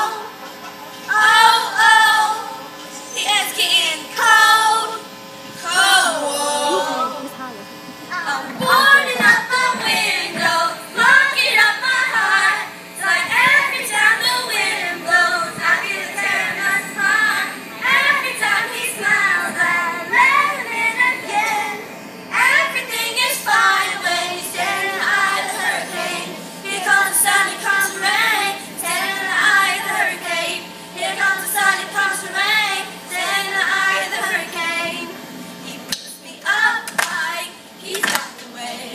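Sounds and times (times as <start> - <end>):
children's choir singing pop song: 0.0 - 0.4, 1.1 - 2.6, 3.2 - 5.0, 5.6 - 7.1, 8.2 - 35.2, 36.0 - 38.9.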